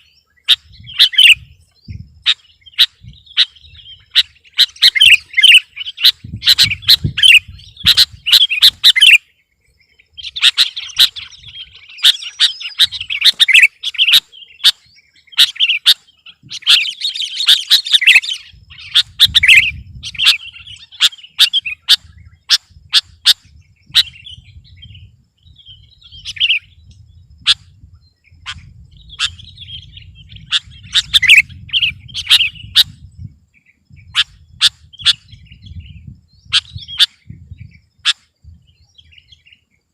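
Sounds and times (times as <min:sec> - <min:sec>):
bulbul singing chattering phrases: 0:00.0 - 0:39.7.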